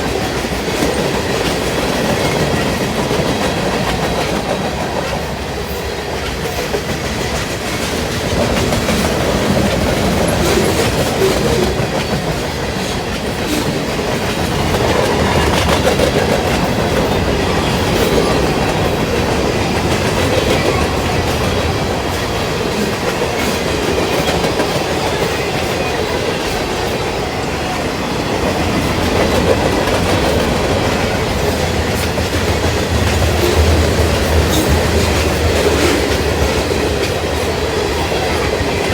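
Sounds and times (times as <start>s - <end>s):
freight train cars rolling: 0.0s - 38.9s
wheels clicking over rail joints: 0.0s - 38.9s.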